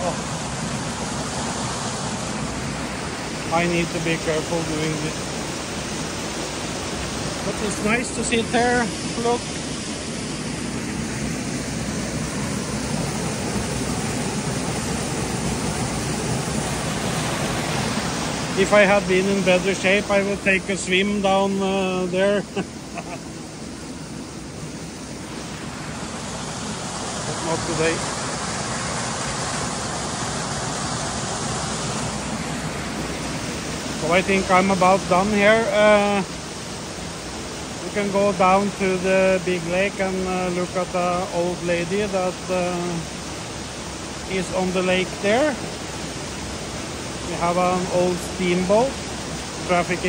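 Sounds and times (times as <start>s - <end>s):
waterfall rushing over rock: 0.0s - 50.0s.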